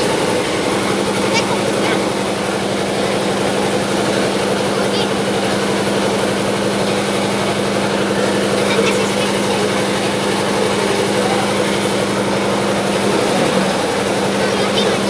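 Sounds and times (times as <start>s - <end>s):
crowd chatter: 0.0s - 15.0s
small engine running: 0.0s - 15.0s.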